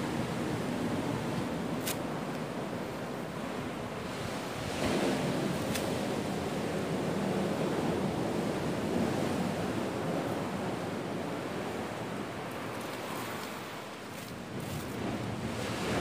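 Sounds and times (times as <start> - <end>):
sea surf washing on beach: 0.0 - 16.0.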